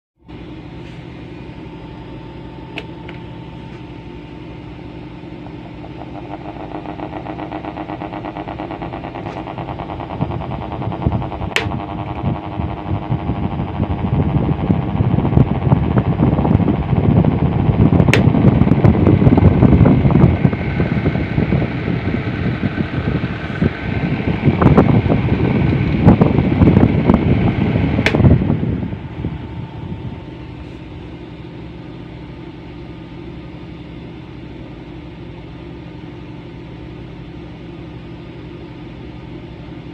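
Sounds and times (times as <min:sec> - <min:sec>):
electric fan rattling rumble: 0:00.2 - 0:39.9
faint wavering whine: 0:00.2 - 0:39.9.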